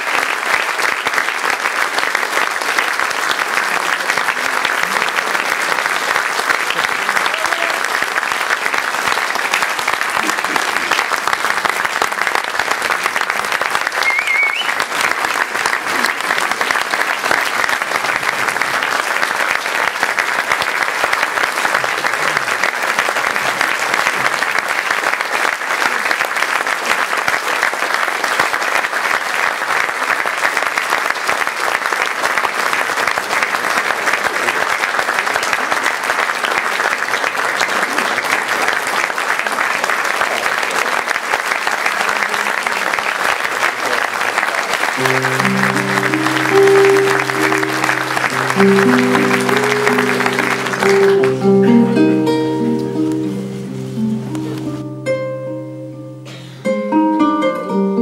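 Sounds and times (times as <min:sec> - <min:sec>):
audience applauding: 0:00.0 - 0:56.6.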